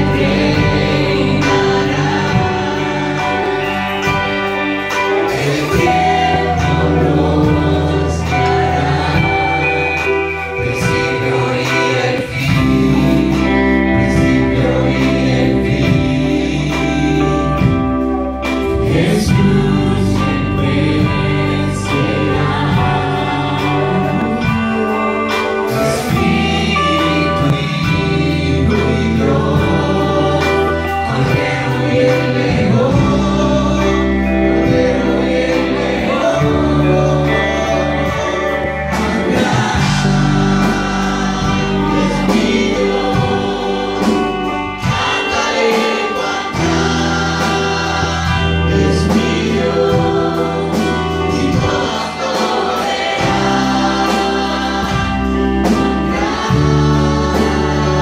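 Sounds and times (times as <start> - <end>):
choir of voices singing: 0.0 - 58.0
worship band playing: 0.0 - 58.0.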